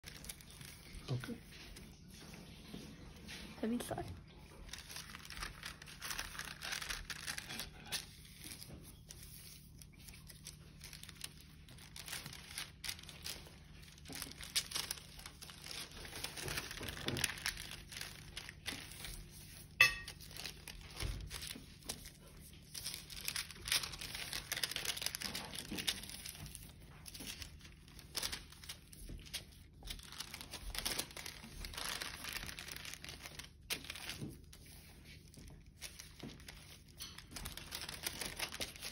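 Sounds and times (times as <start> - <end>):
paper rustling and crinkling: 0.0 - 38.9.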